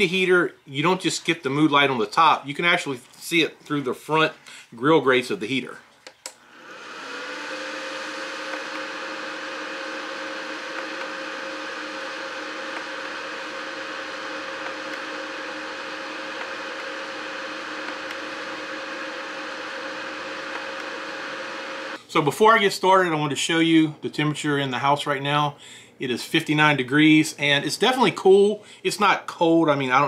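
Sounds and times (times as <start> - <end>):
heater fan whirring: 0.0 - 29.3.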